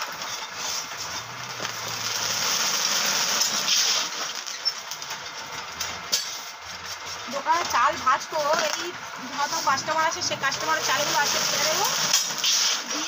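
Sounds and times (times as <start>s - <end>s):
rice frying in a hot wok: 0.0s - 13.0s.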